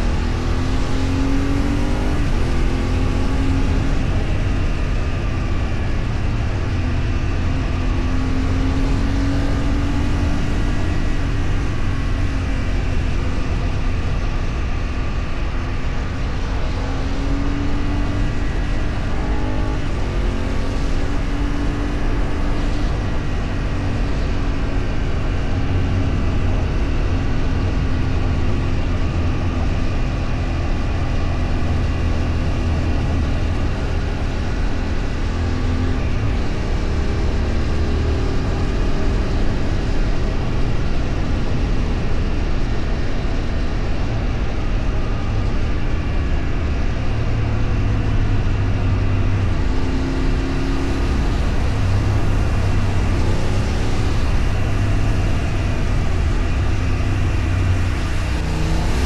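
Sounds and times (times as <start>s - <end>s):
vehicle engine cruising: 0.0s - 59.0s
wind and road noise: 0.0s - 59.0s.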